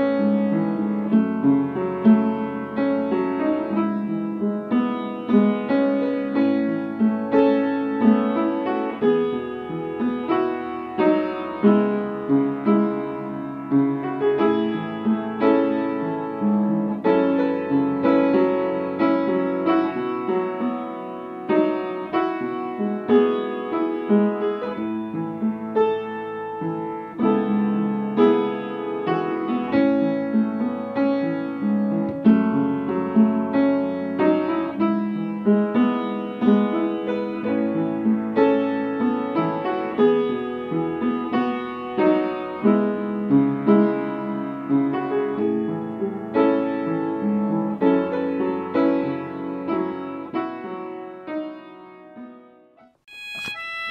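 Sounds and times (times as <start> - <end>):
piano run of notes: 0.0 - 53.9.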